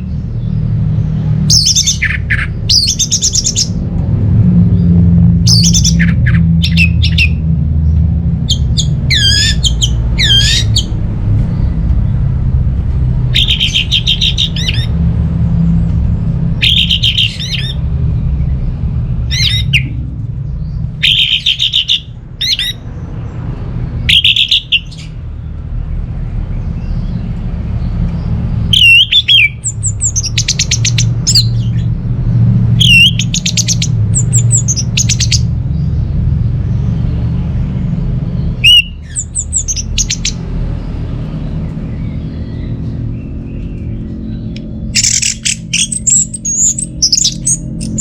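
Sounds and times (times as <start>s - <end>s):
steady low hum: 0.0s - 48.0s
thrush calling and singing: 0.0s - 48.0s.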